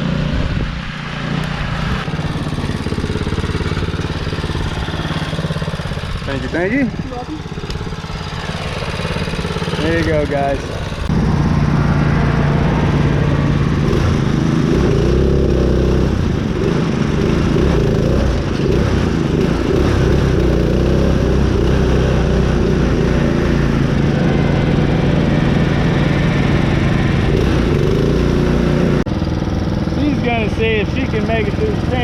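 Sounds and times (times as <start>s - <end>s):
lawn mower engine running hard: 0.0s - 32.0s.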